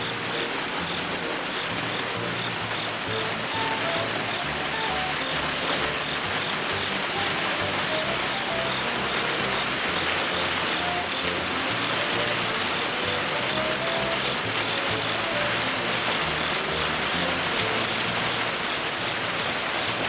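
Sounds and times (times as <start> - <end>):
background music: 0.0 - 20.0
heavy rain falling: 0.0 - 20.0.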